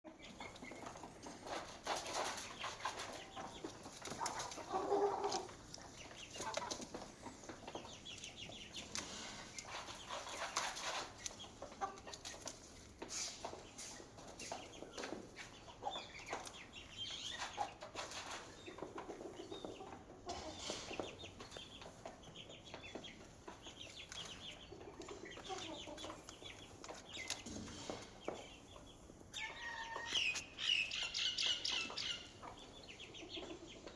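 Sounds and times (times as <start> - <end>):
chickens clucking: 0.1 - 33.9
chicks peeping: 0.1 - 33.9.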